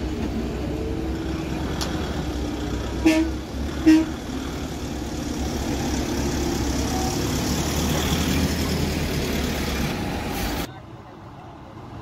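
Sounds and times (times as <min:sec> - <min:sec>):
diesel lorry engines rumbling: 0:00.0 - 0:12.0.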